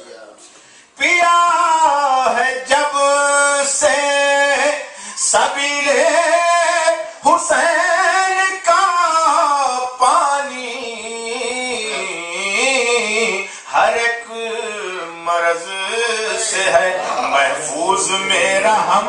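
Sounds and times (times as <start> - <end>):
man singing unaccompanied: 1.0 - 19.0.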